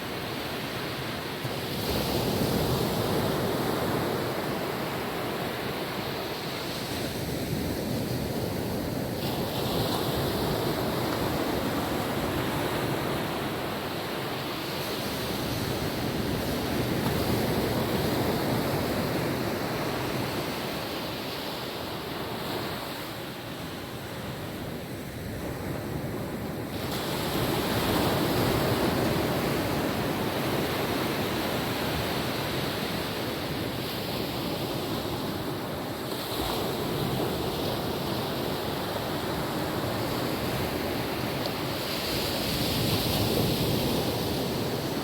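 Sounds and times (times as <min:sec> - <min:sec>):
ocean waves washing onto beach: 0:00.0 - 0:45.0.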